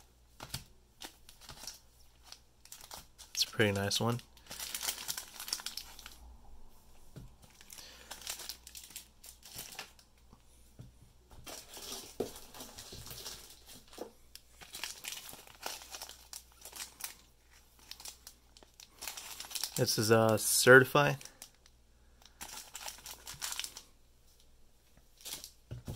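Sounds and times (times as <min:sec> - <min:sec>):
plastic bags crinkling: 0:00.4 - 0:06.2, 0:07.4 - 0:10.2, 0:11.4 - 0:23.9, 0:25.2 - 0:25.7.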